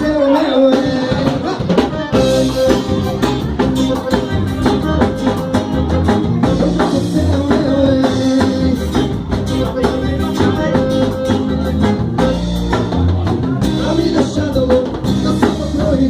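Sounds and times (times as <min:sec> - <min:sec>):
band playing instrumental music: 0:00.0 - 0:16.0
drum kit beat: 0:00.0 - 0:16.0.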